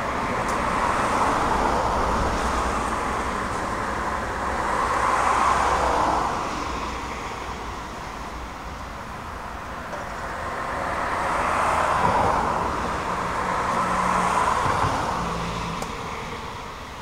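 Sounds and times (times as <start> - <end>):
car passing: 0.2 - 8.4, 10.3 - 16.9.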